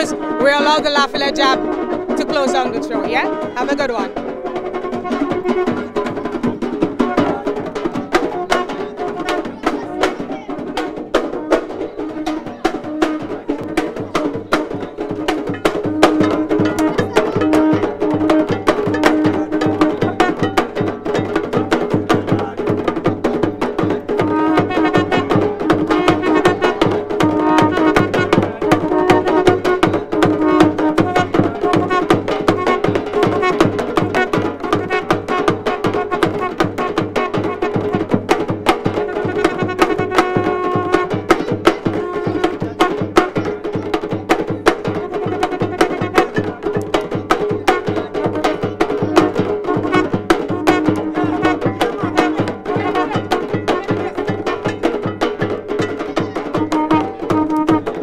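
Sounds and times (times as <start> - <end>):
fast percussion carnival music: 0.0 - 58.0.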